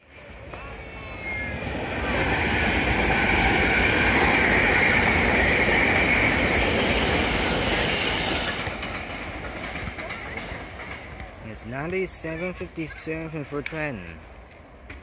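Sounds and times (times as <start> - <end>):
train wheels rumbling: 0.1 - 12.4.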